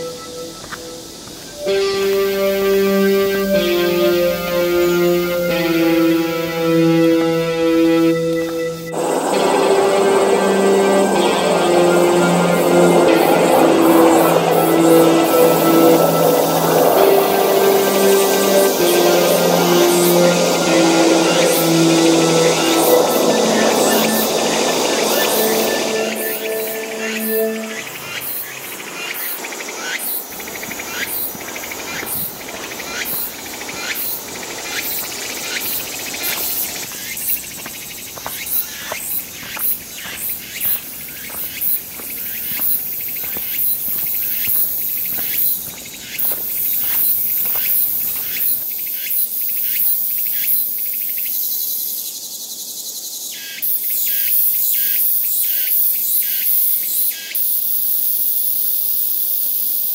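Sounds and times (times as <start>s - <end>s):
high-pitched insect buzz: 0.0s - 50.6s
insects chirping: 0.0s - 59.9s.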